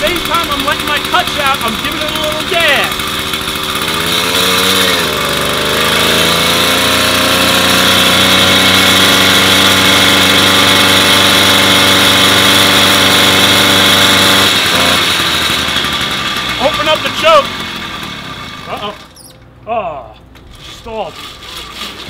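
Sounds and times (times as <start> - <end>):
small single-cylinder engine running: 0.0 - 19.5.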